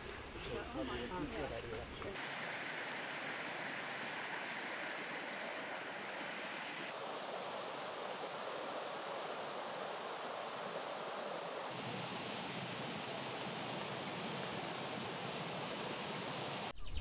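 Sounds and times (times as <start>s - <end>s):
stream rushing over stones: 2.2s - 16.7s.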